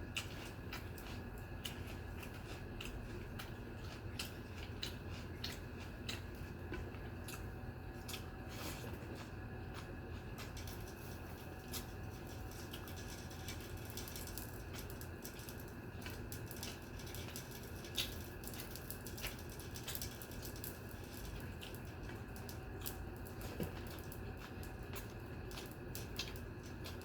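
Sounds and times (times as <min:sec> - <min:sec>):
soft squishing of eating: 0:00.0 - 0:27.0
steady low hum: 0:00.0 - 0:27.0.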